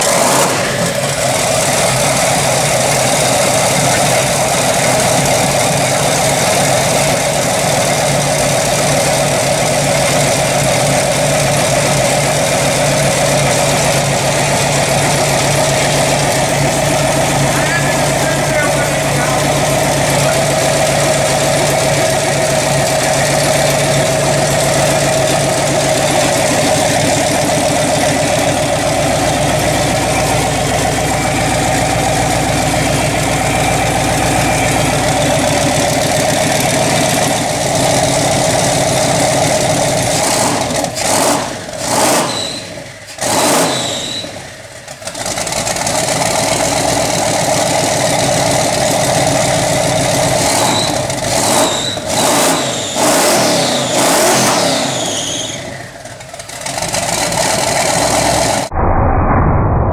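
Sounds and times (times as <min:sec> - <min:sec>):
engine loping idle: 0:00.0 - 0:58.7.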